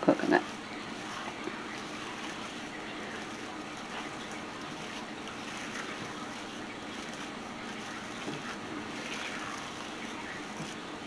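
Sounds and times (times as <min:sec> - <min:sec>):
spatula scraping dough in glass bowl: 0:00.4 - 0:10.9.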